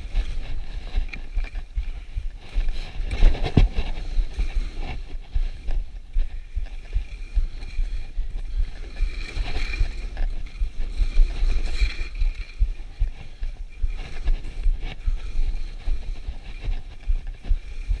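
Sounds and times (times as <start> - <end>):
skis sliding over snow: 0.0 - 18.0
wind buffeting microphone: 0.0 - 18.0.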